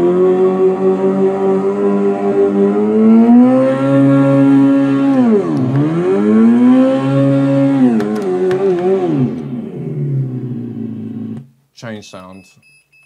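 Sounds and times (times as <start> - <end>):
simulated engine revving from speaker: 0.0 - 11.4.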